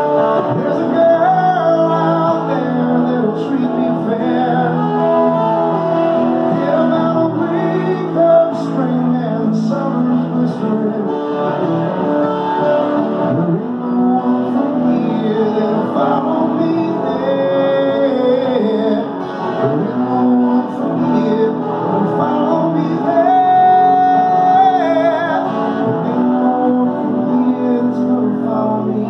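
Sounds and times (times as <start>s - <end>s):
acoustic guitar strumming: 0.0s - 29.0s
man singing: 0.0s - 29.0s.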